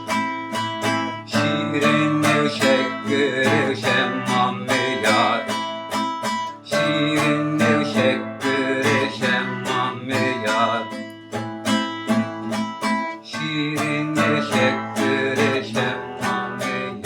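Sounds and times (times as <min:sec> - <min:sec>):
plucked string instrument strumming: 0:00.0 - 0:17.0.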